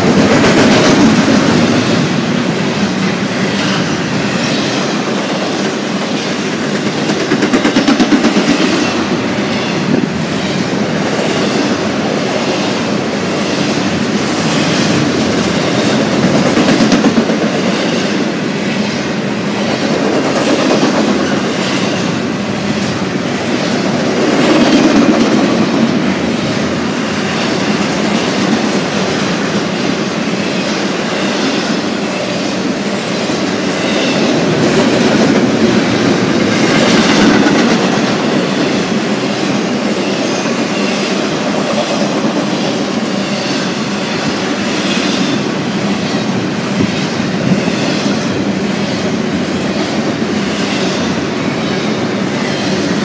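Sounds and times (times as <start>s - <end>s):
train wheels clattering on rail joints: 0.0s - 53.0s.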